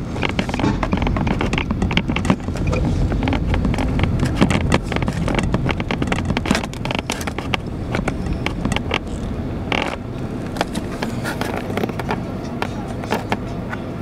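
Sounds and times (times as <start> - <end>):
knocks and rattles: 0.0 - 13.5
low road rumble: 0.0 - 14.0.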